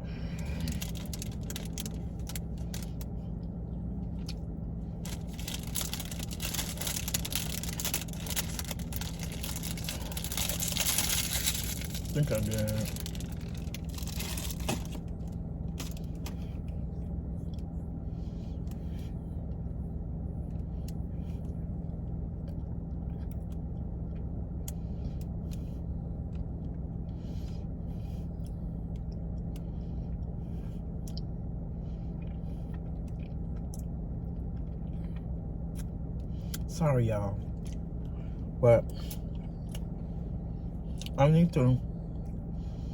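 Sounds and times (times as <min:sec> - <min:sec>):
low mechanical hum: 0:00.0 - 0:42.9.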